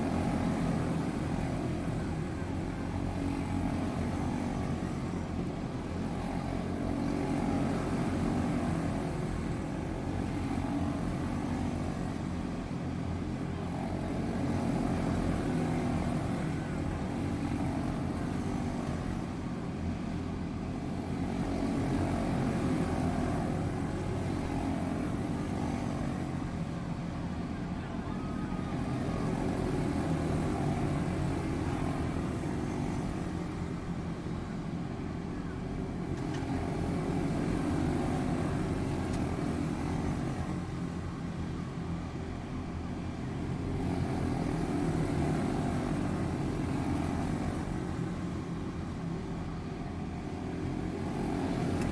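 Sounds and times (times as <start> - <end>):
small race car engines droning: 0.0 - 51.9.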